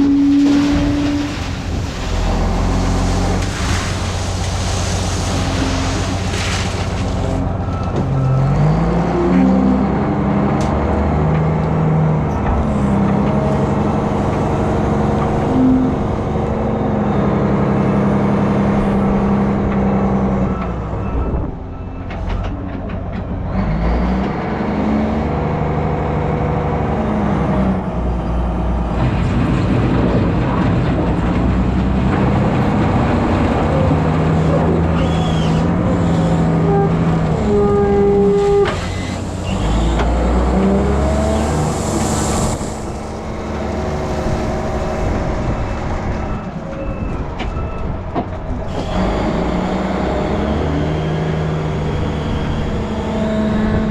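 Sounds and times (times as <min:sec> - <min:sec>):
diesel engine under load: 0:00.0 - 0:53.9.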